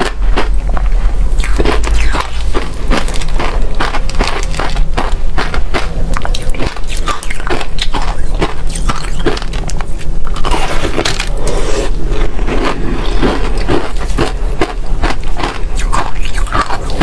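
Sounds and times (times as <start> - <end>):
freezer frost being chewed: 0.0 - 17.0.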